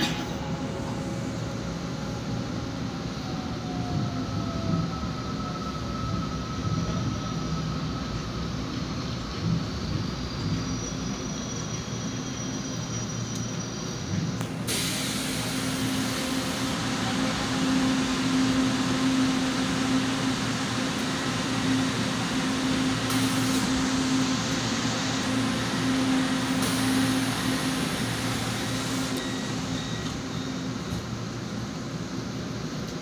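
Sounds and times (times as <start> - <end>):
train air conditioning hum and hiss: 0.0 - 33.0.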